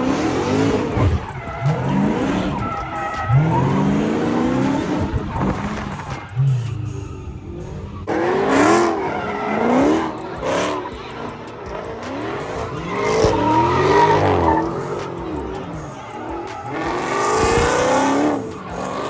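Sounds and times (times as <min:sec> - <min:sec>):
car engine revving: 0:00.0 - 0:19.0
car tires squealing: 0:00.0 - 0:19.0.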